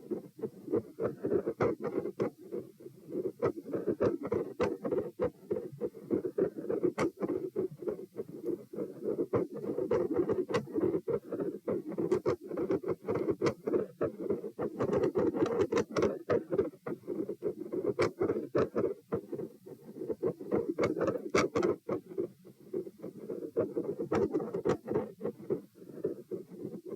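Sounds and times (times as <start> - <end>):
scratchy clicks and rubbing: 0.0 - 26.9.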